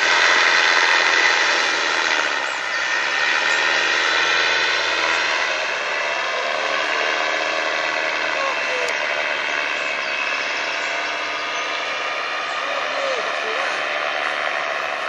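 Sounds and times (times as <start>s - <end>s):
paramotor engine and propeller: 0.0s - 15.0s.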